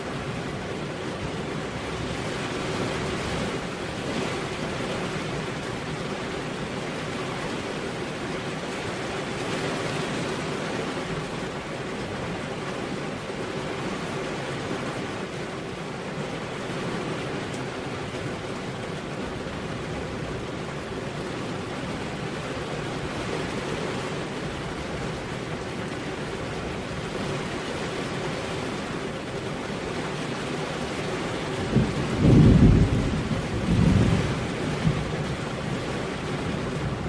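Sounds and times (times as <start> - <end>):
heavy rain on road: 0.0 - 37.0.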